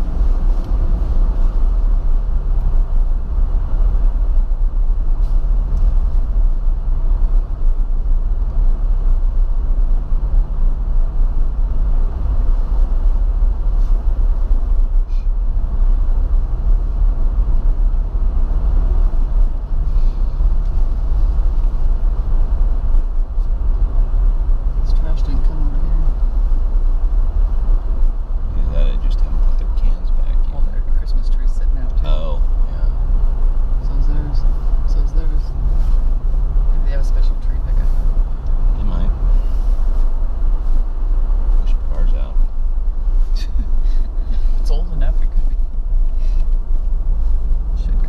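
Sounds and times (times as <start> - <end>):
car engine rumble: 0.0 - 48.0
road noise: 0.0 - 48.0.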